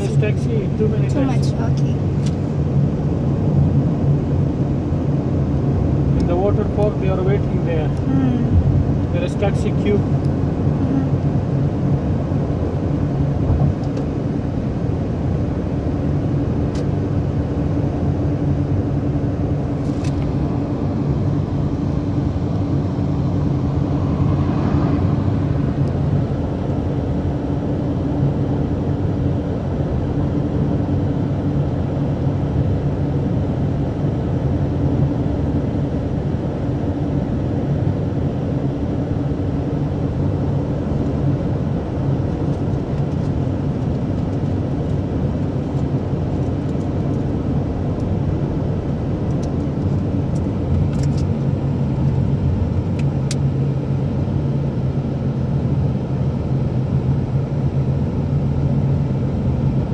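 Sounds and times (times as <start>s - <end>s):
car road and engine noise: 0.0s - 59.9s.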